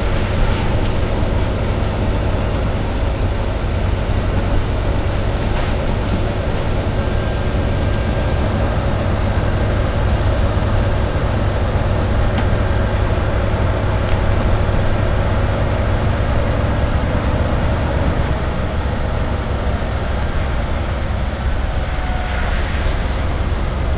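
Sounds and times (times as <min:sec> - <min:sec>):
bus diesel engine: 0:00.0 - 0:23.9
low hum: 0:00.0 - 0:23.9.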